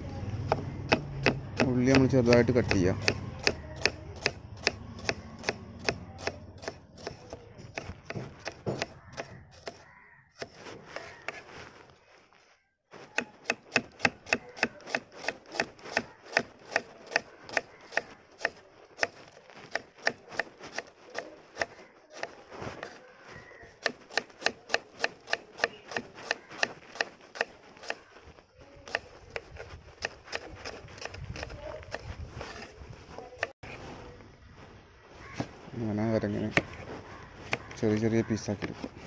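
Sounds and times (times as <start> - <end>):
knife chopping on a wooden board: 0.4 - 11.4, 13.0 - 28.1, 28.9 - 33.6, 36.5 - 37.8, 38.5 - 39.0.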